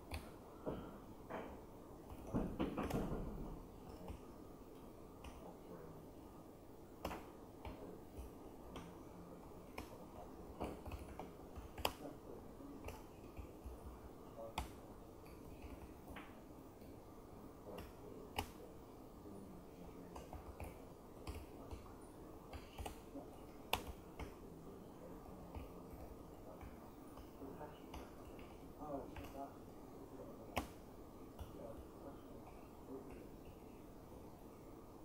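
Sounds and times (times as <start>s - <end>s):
low room hum: 0.0s - 35.0s
laptop keyboard typing: 2.0s - 18.9s, 19.6s - 33.6s.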